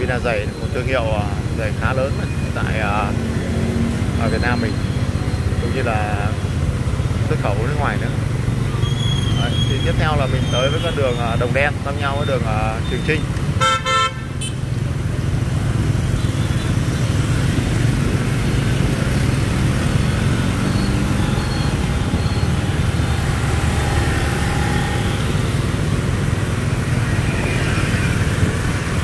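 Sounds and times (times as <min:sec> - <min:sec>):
engines passing close by: 0:00.0 - 0:29.0
traffic on wet road: 0:00.0 - 0:29.0.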